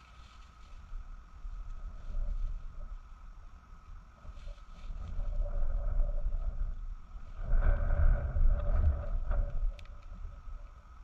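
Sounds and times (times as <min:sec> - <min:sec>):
wind buffeting microphone: 0:00.8 - 0:11.0.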